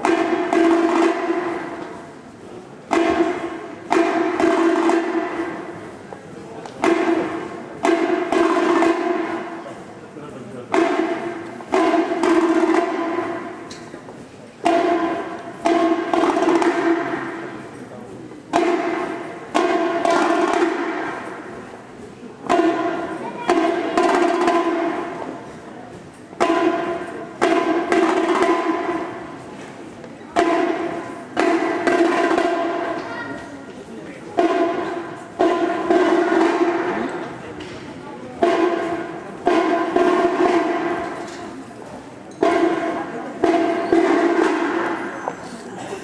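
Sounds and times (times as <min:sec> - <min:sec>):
marching band playing chords: 0:00.0 - 0:46.0.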